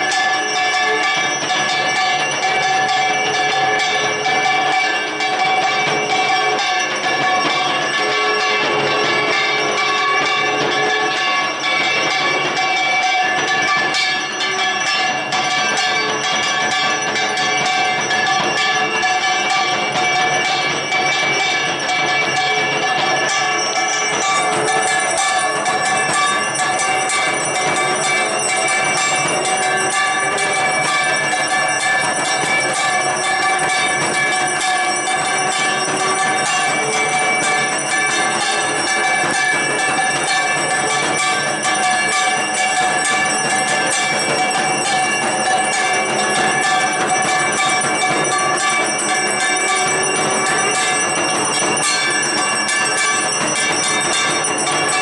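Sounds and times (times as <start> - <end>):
bells and metal percussion ringing: 0.0 - 55.0
steady ringing tones: 0.0 - 55.0.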